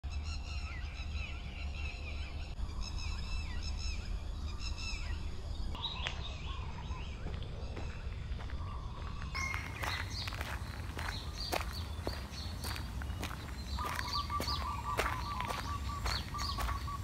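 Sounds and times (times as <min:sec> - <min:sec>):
birds chirping and calling: 0:00.1 - 0:17.0.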